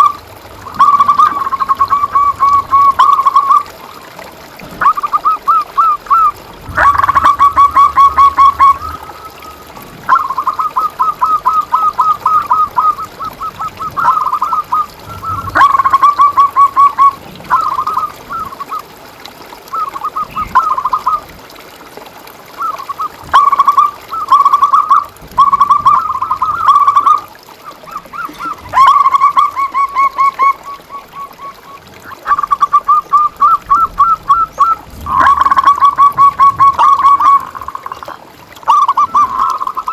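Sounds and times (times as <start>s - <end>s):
doves cooing trills: 0.0s - 39.9s.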